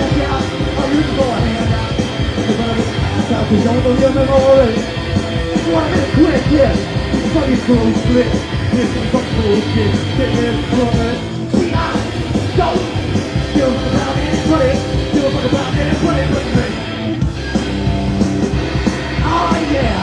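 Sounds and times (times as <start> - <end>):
drums: 0.0 - 20.0
loud electric guitars: 0.0 - 20.0.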